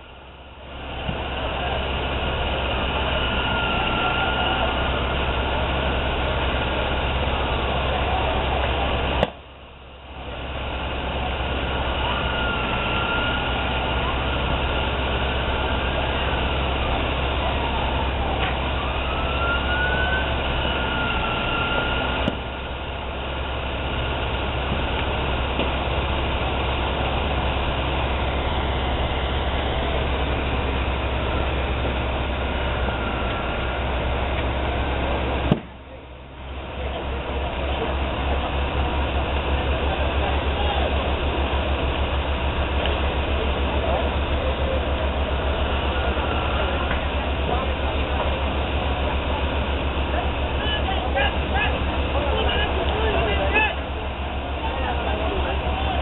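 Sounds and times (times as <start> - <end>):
faint sirens wailing: 0.0 - 56.0
fire engines droning: 0.0 - 56.0.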